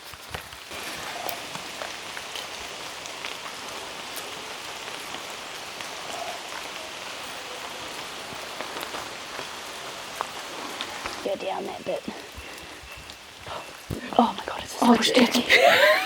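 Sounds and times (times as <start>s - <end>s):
rain on foliage: 0.0s - 16.0s.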